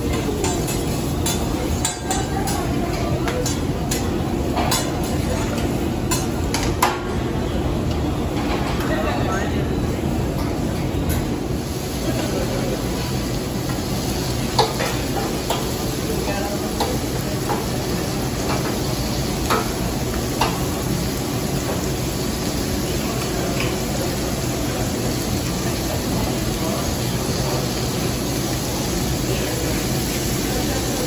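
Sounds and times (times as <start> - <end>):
meat sizzling on griddle: 0.0 - 6.3, 11.6 - 31.0.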